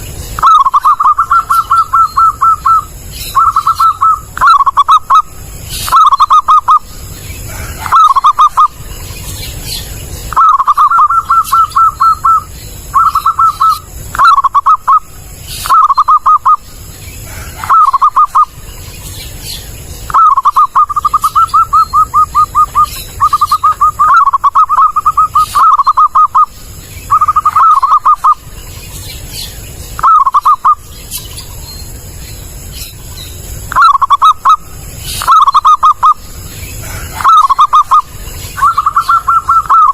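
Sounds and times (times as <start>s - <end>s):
dove stuttering coos: 0.4s - 28.6s, 33.6s - 39.9s.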